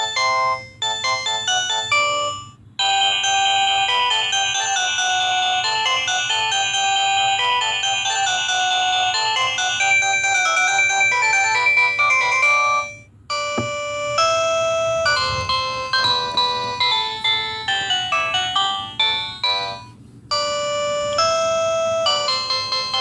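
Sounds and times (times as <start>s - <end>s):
phone ringtone melody: 0.0s - 23.0s.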